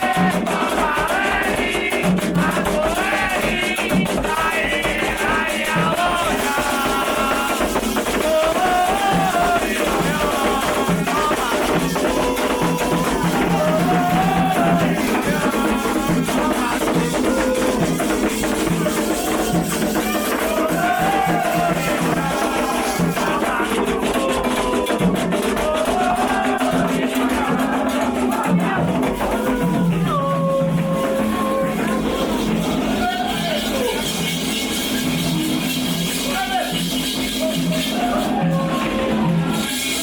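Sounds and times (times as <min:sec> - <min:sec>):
shaken rattle: 0:00.0 - 0:29.5, 0:32.2 - 0:38.6
steady drum beat: 0:00.0 - 0:40.0
voices singing: 0:00.0 - 0:40.0.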